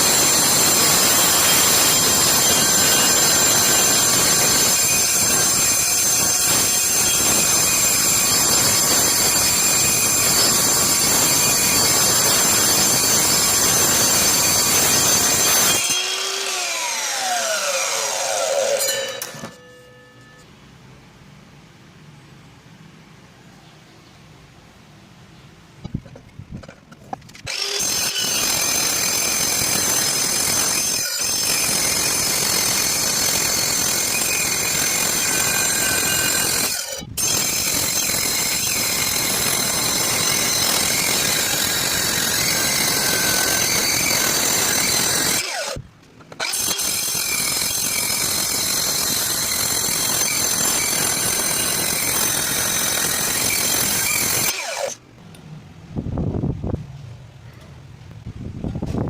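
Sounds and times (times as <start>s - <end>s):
circular saw cutting with whine: 0.0s - 20.5s, 27.4s - 55.0s.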